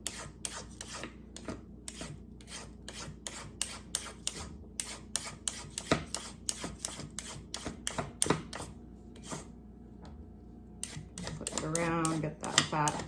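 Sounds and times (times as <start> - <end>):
vegetable peeler scraping carrot: 0.0 - 9.5, 10.8 - 13.0.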